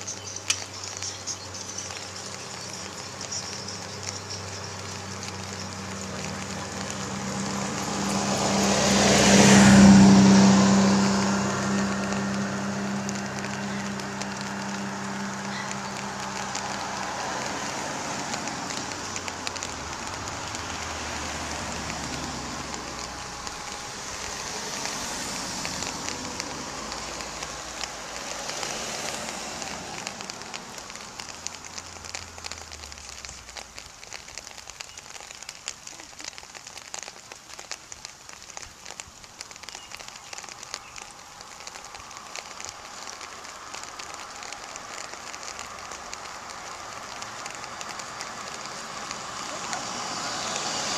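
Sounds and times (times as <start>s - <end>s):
car passing on wet road: 0.0s - 50.9s
clicks of raindrops: 0.0s - 50.9s
rain pattering: 0.0s - 50.9s.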